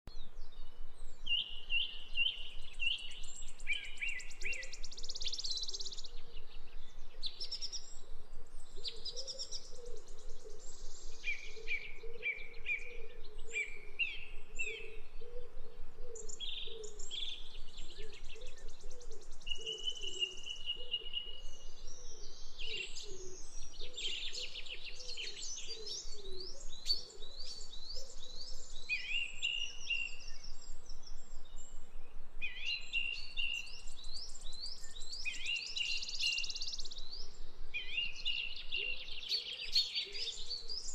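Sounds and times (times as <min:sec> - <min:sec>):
songbirds singing: 0:00.1 - 0:40.9.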